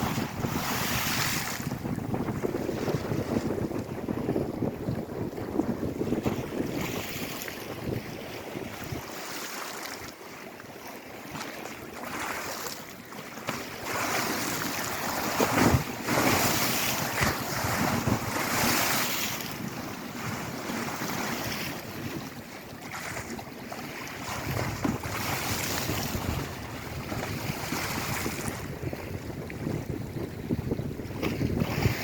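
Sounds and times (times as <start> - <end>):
wind on microphone: 0.0 - 10.1, 13.4 - 32.0
waves washing onto shore: 0.0 - 32.0.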